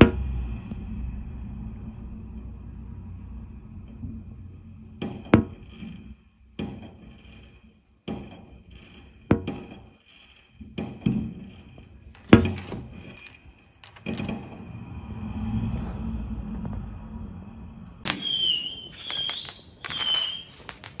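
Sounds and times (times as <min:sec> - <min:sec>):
fireworks bangs with rumbling echo: 0:03.8 - 0:21.0.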